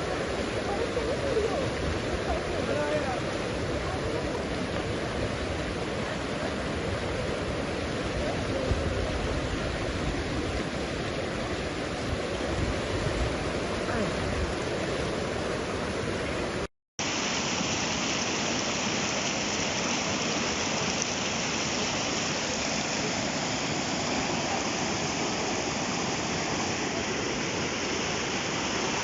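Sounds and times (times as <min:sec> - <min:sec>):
rushing mountain stream: 0:00.0 - 0:29.0.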